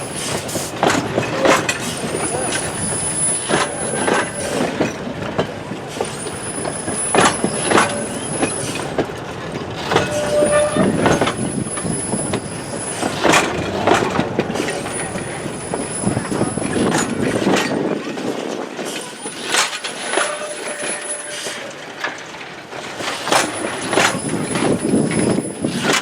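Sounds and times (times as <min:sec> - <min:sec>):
metallic clanks from train wheels: 0:00.0 - 0:26.0
train rolling slowly: 0:00.0 - 0:26.0.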